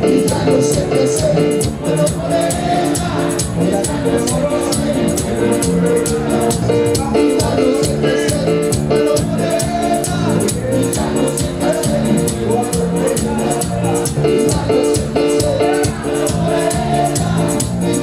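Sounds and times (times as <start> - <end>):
live band dance music: 0.0 - 18.0
shaker percussion: 0.0 - 18.0.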